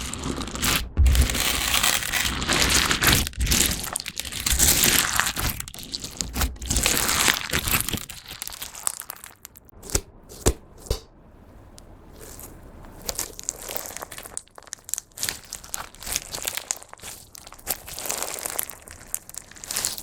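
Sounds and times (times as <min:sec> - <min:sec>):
crunchy slime squeezed by hand: 0:00.0 - 0:09.7, 0:12.2 - 0:20.0.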